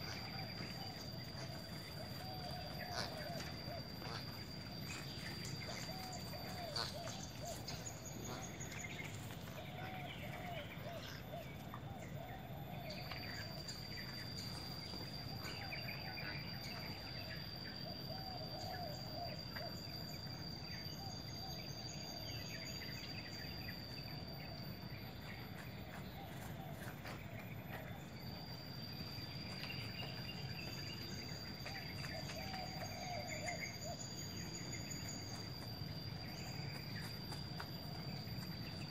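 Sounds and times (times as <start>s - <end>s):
birds chirping and calling: 0.0s - 38.9s
high-pitched insect drone: 0.0s - 38.9s.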